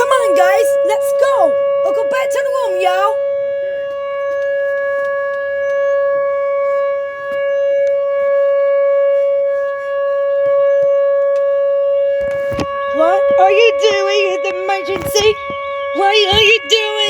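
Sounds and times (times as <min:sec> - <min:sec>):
emergency warning siren steady tone: 0:00.0 - 0:17.0.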